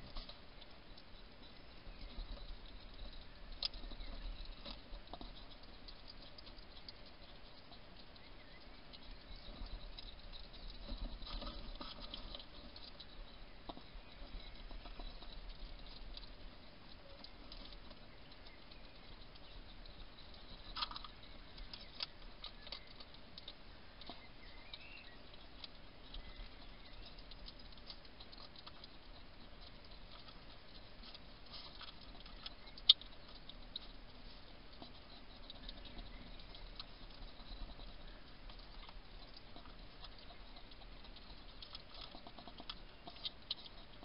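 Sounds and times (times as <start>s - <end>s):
hedgehog crunching food: 0.0s - 44.0s.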